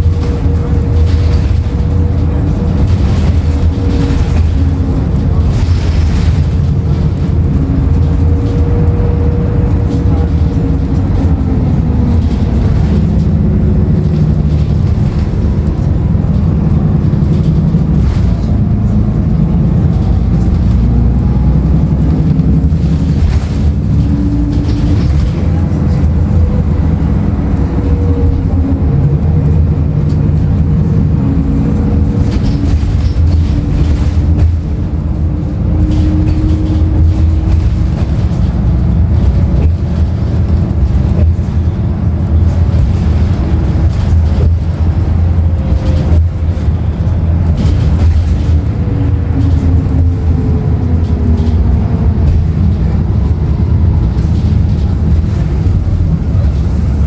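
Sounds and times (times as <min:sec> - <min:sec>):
bus engine and road rumble: 0:00.0 - 0:57.0
cabin rattles and clicks: 0:00.0 - 0:57.0.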